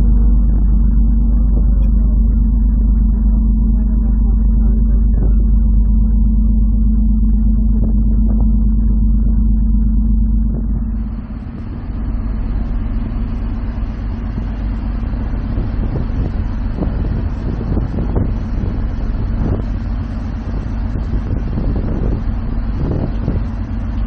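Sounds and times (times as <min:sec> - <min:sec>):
ferry engines droning: 0:00.0 - 0:24.0
wind on microphone: 0:00.0 - 0:24.0.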